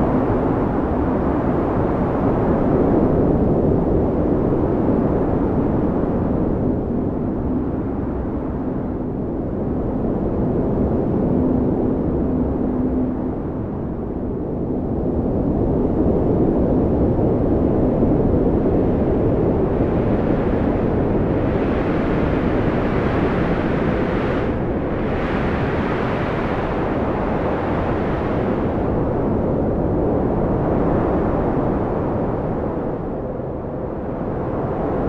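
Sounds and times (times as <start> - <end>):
strong wind blowing: 0.0 - 35.0.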